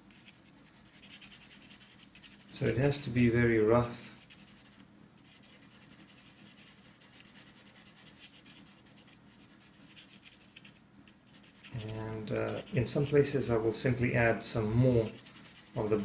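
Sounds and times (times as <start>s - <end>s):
pastel pencil scratching on paper: 0.1s - 3.0s, 4.2s - 16.0s.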